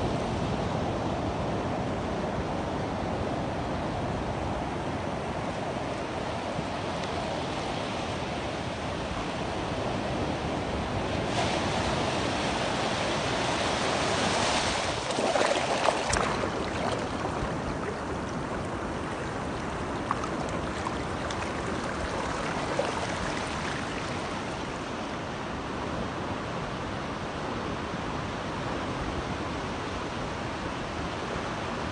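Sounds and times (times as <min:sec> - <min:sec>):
waves washing on shore: 0:04.6 - 0:31.9.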